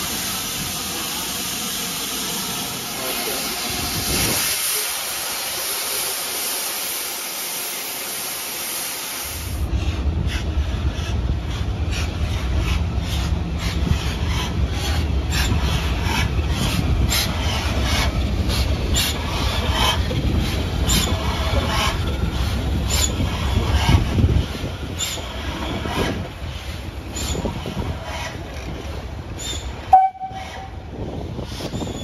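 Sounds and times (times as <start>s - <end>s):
steam locomotive low rumble: 0.0s - 32.0s.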